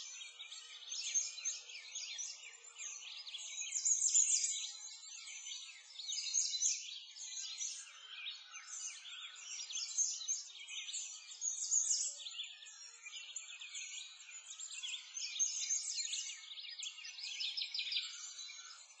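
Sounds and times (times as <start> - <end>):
small birds chirping and singing: 0.0 - 19.0.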